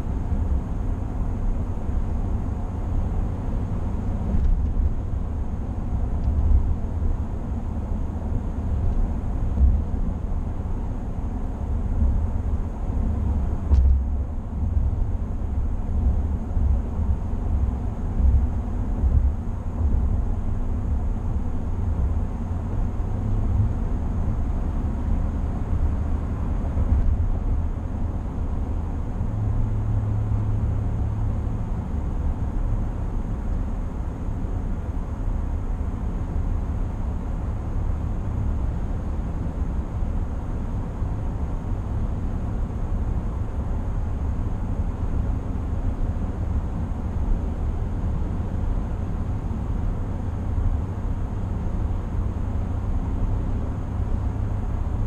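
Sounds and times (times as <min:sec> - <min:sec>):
tyre and wind noise in vehicle: 0:00.0 - 0:55.0.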